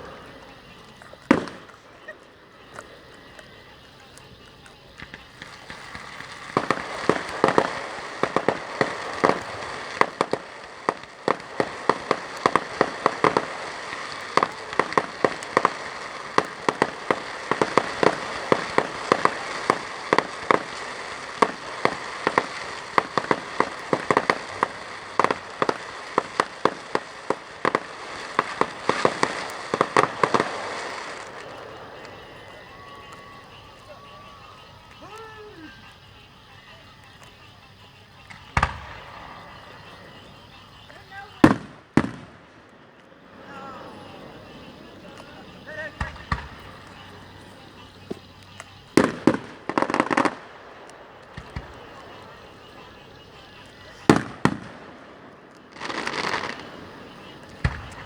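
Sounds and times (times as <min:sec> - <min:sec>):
fireworks bangs and crackling: 0:00.0 - 0:58.0
steady hiss: 0:00.0 - 0:58.0.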